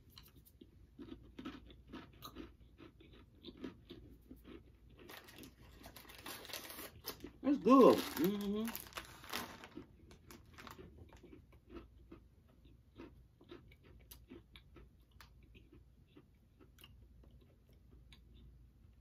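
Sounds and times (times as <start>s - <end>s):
person chewing crunchy cookie: 0.0s - 19.0s.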